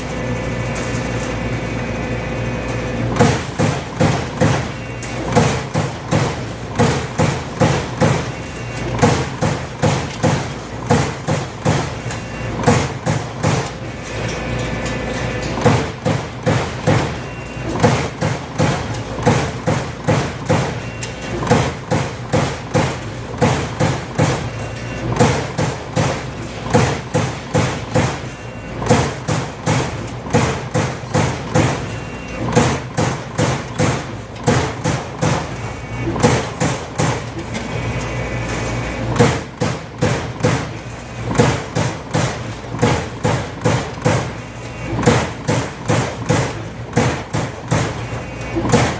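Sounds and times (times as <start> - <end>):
punch press punching sheet metal: 0.0 - 48.9.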